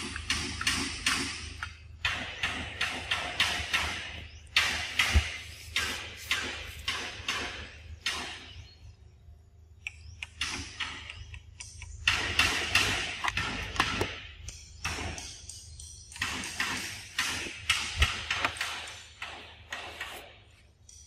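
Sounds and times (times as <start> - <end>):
sharp clicks: 0.0 - 8.3, 9.8 - 20.0.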